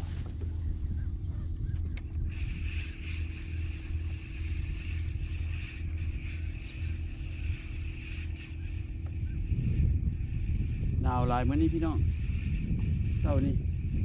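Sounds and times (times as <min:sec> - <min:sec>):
fishing reel whirring: 0:00.0 - 0:14.0
wind rumble on microphone: 0:00.0 - 0:14.0.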